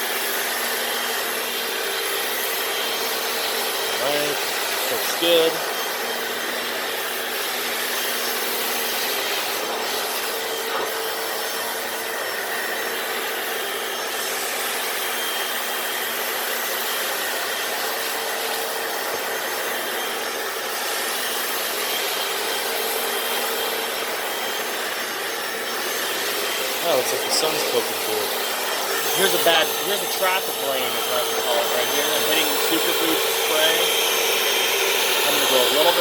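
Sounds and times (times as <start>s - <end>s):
brushes scrubbing floor: 0.0s - 36.0s
floor cleaner motor whining: 0.0s - 36.0s.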